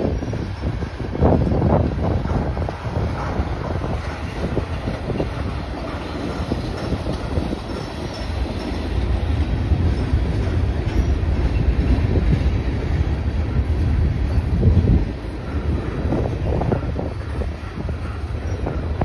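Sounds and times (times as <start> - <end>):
low rumble of freight cars: 0.0 - 19.0
steel wheels clacking on rails: 0.0 - 19.0.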